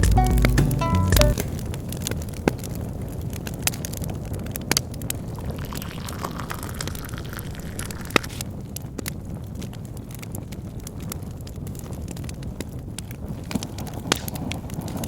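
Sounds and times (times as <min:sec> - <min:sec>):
fire crackling pops: 0:01.2 - 0:15.0
wood fire rumbling: 0:01.3 - 0:15.0.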